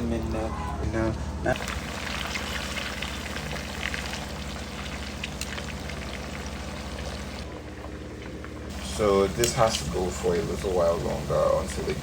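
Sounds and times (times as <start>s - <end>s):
oil crackling and spitting: 1.5s - 12.0s
chicken frying in hot oil: 1.6s - 12.0s.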